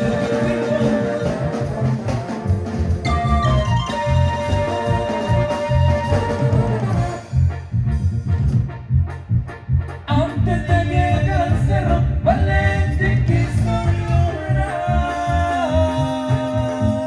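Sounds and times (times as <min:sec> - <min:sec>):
latin dance band playing: 0:00.0 - 0:17.0
sliding lead melody: 0:00.0 - 0:17.0.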